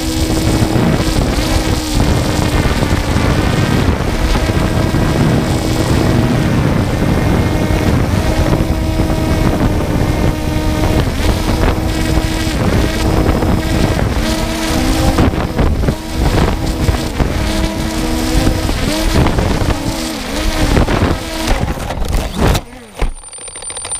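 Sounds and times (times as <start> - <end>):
wind noise: 0.0 - 22.7
drone propellers humming: 0.0 - 23.9.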